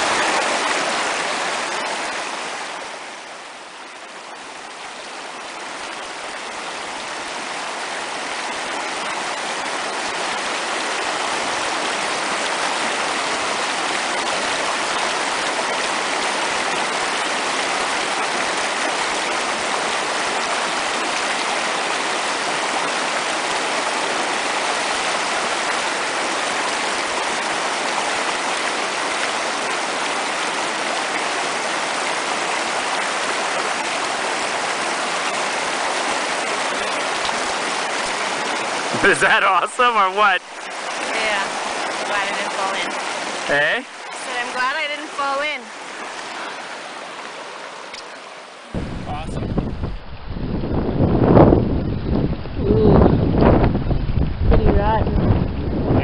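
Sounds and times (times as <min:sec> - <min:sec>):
creek rushing over rocks: 0:00.0 - 0:56.0.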